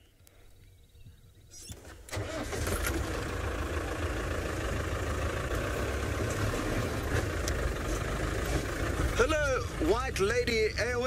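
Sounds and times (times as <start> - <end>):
vehicle engine running: 2.1 - 11.0.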